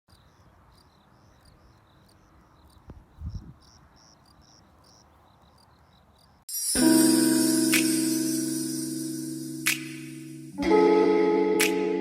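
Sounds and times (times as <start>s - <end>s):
crickets chirping: 0.1s - 10.5s.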